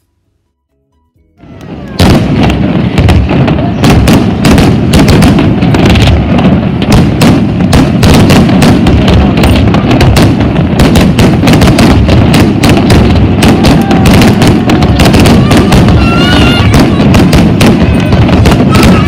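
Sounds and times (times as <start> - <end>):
fireworks bangs and crackling: 1.4 - 19.0.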